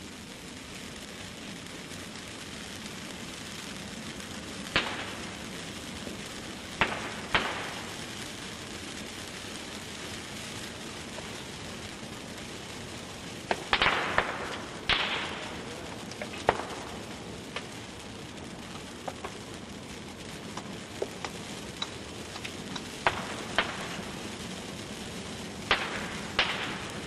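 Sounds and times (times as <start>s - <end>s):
rush of flame: 0.0s - 27.0s
sharp cracks and pops of burning branches: 0.0s - 27.0s.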